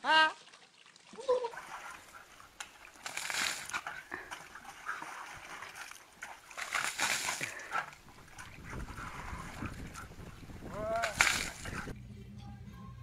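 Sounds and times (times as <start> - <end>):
water splashing from bucket: 0.4 - 12.0.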